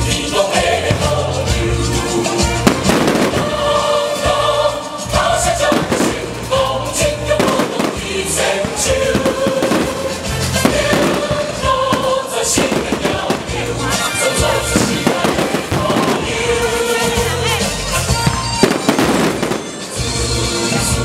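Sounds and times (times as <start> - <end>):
music with singing: 0.0 - 21.0
fireworks bursting: 0.1 - 21.0.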